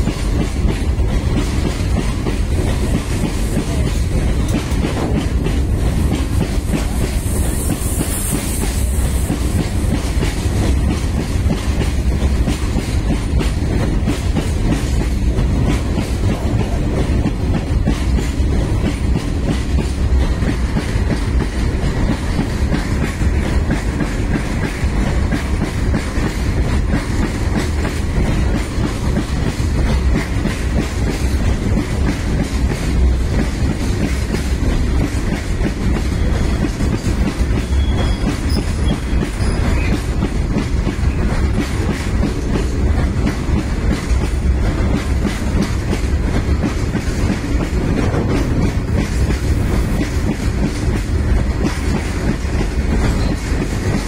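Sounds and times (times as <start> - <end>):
wheels clicking over rail joints: 0.0 - 7.2, 8.6 - 54.0
train wagons rumbling past: 0.0 - 54.0.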